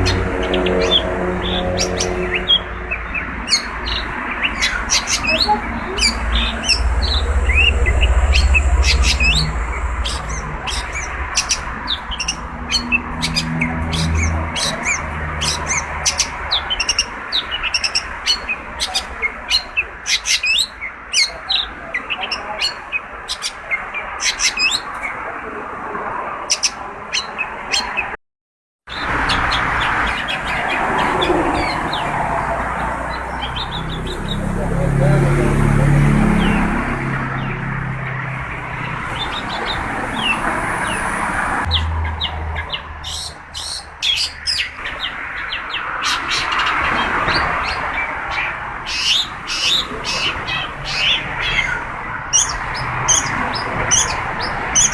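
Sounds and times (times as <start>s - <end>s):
bird chattering song: 0.0s - 25.1s, 28.9s - 34.7s, 41.6s - 54.9s.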